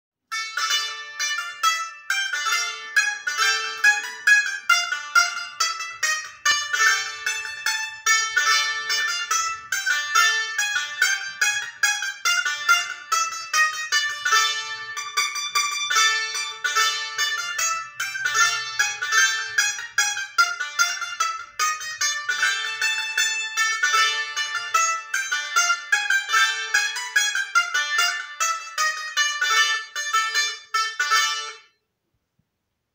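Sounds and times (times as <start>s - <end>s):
small lute picked notes: 0.3s - 31.9s.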